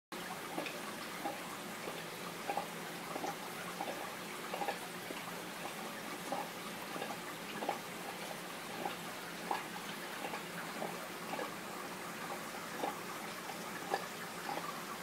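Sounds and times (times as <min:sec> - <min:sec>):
faint water drips: 0:00.2 - 0:15.0
running water: 0:00.2 - 0:15.0.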